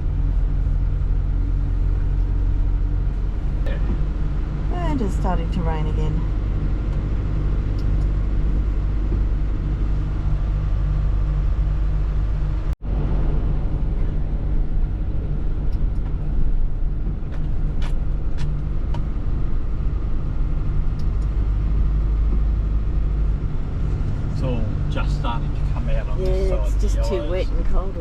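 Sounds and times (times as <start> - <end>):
motor vehicle running: 0.0 - 28.0
road noise: 0.0 - 28.0.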